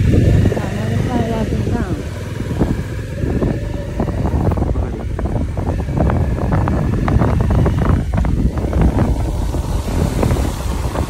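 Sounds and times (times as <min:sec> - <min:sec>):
motorbike riding: 0:00.0 - 0:11.0
wind buffeting microphone: 0:00.0 - 0:11.0.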